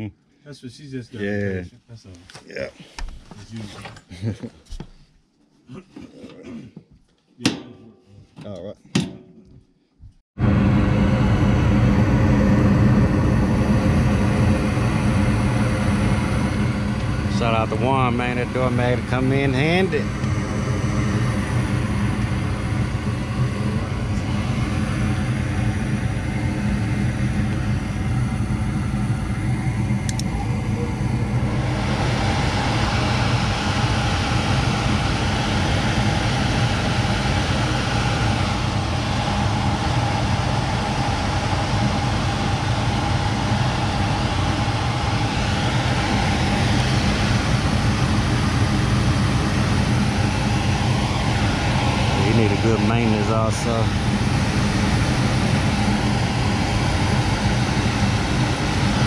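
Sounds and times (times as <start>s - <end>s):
furnace inducer motor humming: 10.4s - 59.0s
gas burners rushing: 10.4s - 59.0s.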